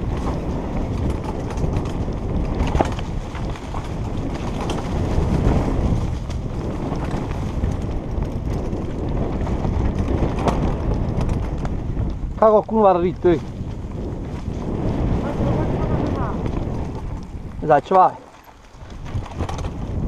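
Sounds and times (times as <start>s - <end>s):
mountain bike rumble and rattle: 0.0s - 20.0s
wind buffeting microphone: 0.0s - 20.0s.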